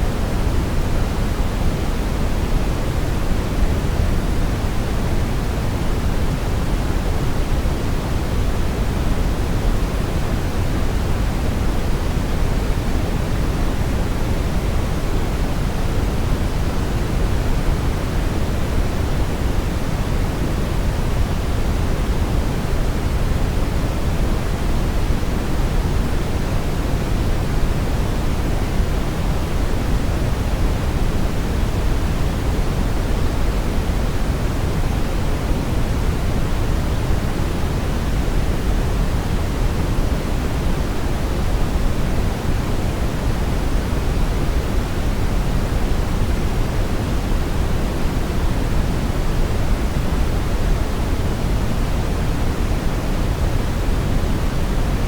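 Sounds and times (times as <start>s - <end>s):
low rumbling brown noise: 0.0s - 55.0s.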